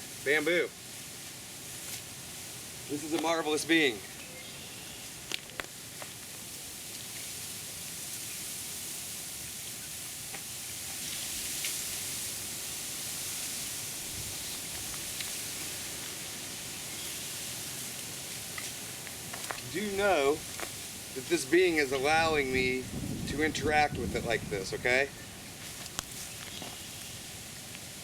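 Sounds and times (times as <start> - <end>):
steady high-pitched hiss: 0.0 - 28.0.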